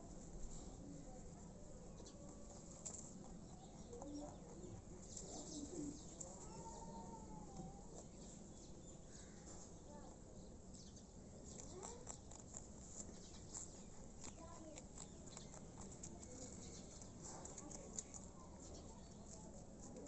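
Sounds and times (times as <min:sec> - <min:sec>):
rabbits nibbling leaves: 0:00.0 - 0:20.0.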